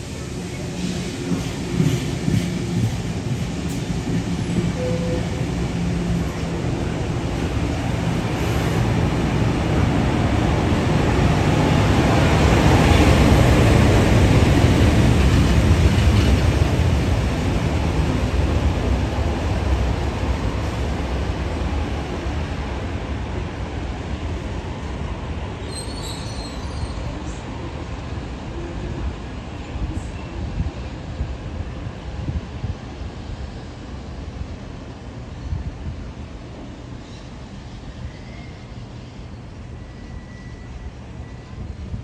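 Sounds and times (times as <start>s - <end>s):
train passing: 0.0s - 42.0s.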